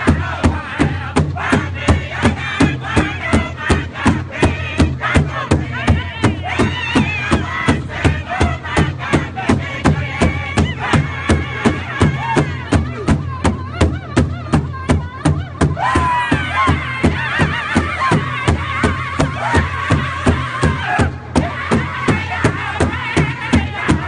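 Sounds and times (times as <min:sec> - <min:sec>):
men singing in unison: 0:00.0 - 0:14.5, 0:15.7 - 0:24.0
hide drum beats: 0:00.0 - 0:24.0.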